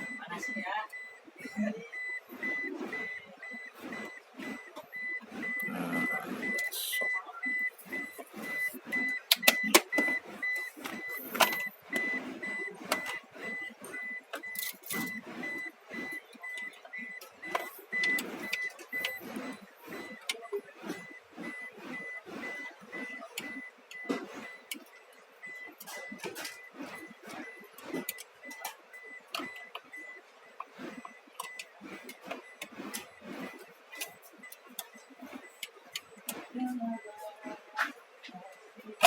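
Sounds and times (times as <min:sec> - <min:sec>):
car warning chime beeping: 0:00.0 - 0:39.0.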